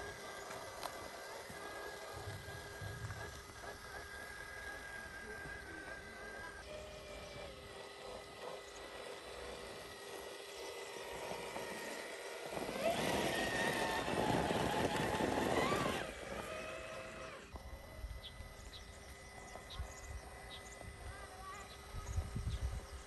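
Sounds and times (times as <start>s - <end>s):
electric motor and gearbox whine: 0.0s - 23.0s.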